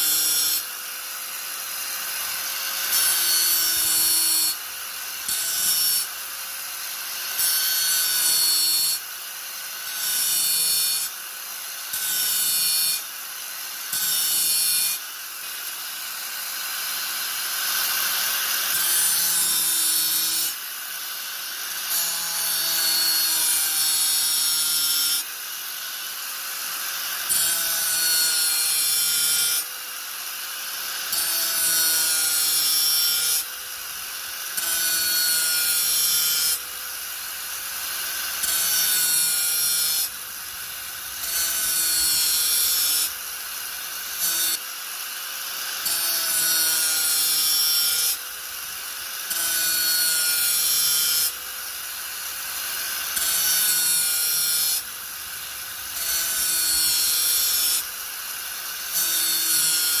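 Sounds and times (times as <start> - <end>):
angle grinder grinding: 0.0 - 60.0.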